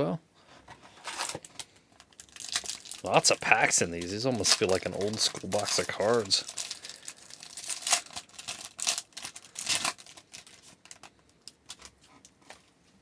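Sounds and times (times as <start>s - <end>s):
wrapper crinkling and tearing: 1.0s - 12.7s.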